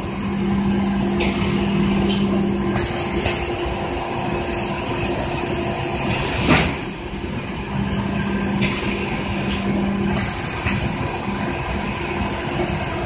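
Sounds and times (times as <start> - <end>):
packaging machine humming: 0.0 - 13.0.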